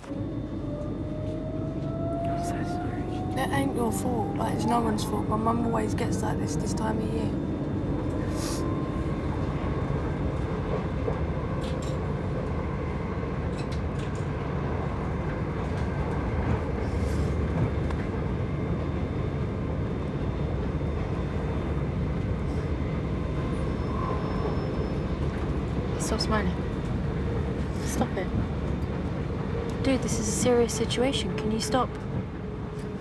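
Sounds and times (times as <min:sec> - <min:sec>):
train carriage rumble: 0:00.0 - 0:33.0.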